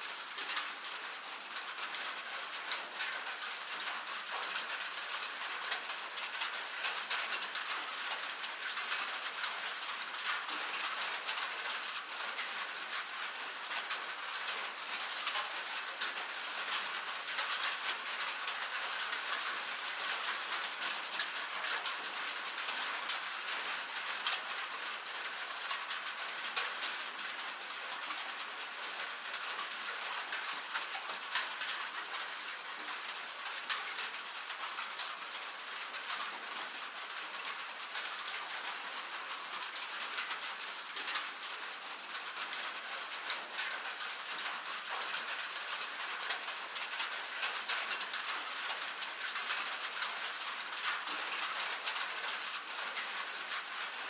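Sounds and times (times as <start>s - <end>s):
rain on a metal roof: 0.0s - 54.0s.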